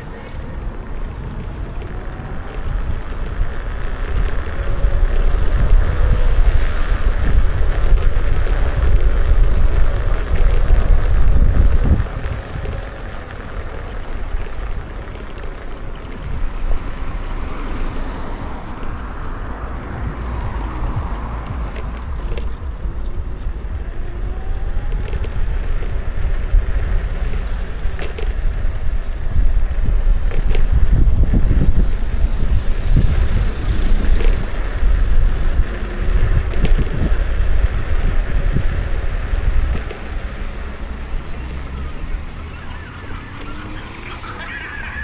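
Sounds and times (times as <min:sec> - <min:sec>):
sharp clicks and rattles: 0:00.0 - 0:45.0
tyre and road rumble: 0:00.0 - 0:45.0
wind buffeting microphone: 0:00.0 - 0:45.0.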